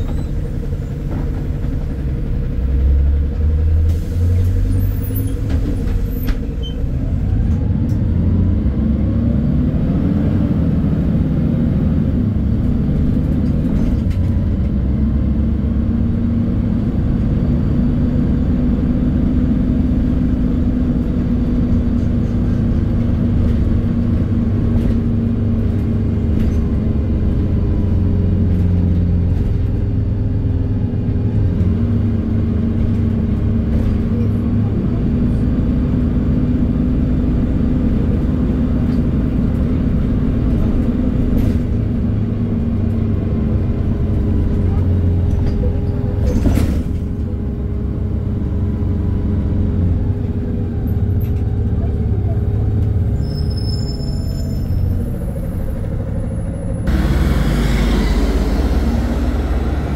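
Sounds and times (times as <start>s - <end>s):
bus engine humming: 0.0s - 59.9s
road and tyre noise: 0.0s - 59.9s.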